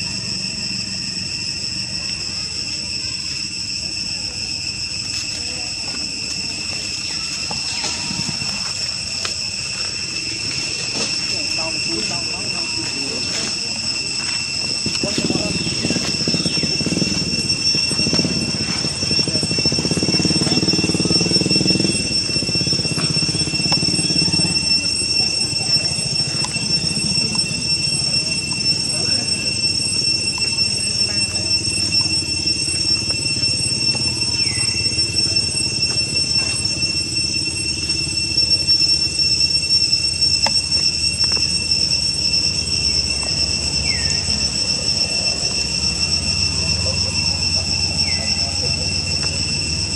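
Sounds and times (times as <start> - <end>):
high-pitched drone: 0.0 - 49.9.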